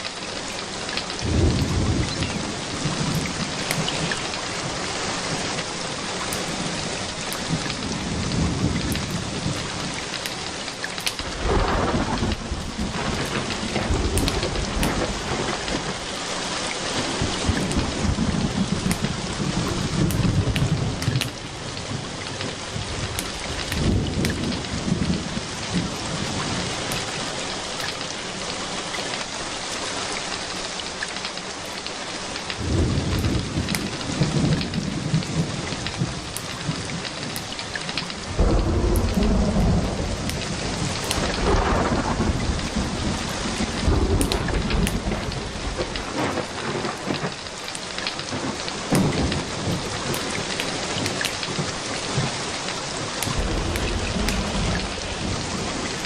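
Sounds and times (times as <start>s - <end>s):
steady rain: 0.0s - 56.0s
thunder rumbling: 0.9s - 28.1s, 32.5s - 56.0s.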